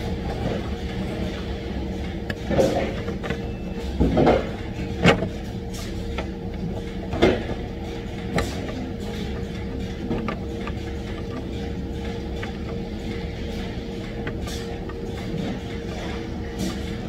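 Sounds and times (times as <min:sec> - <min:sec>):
factory machine hum: 0:00.0 - 0:17.0.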